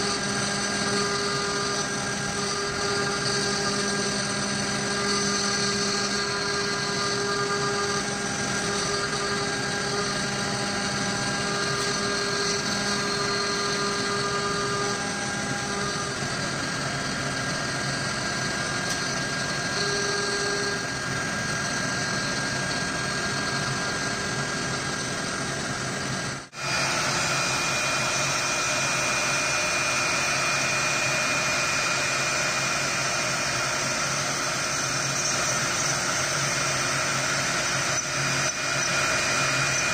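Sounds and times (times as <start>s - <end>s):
cnc router spindle whine: 0.0s - 39.9s.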